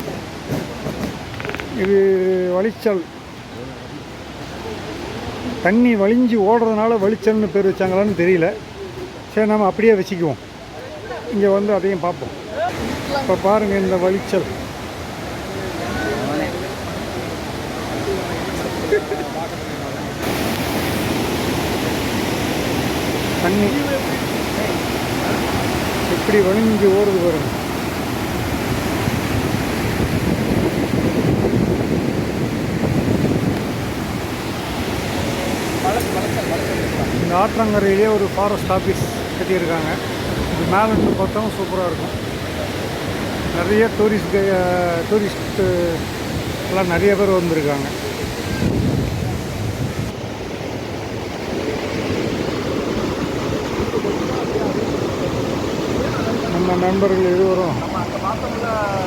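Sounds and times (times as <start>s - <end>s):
waterfall roaring over rocks: 0.0s - 59.0s.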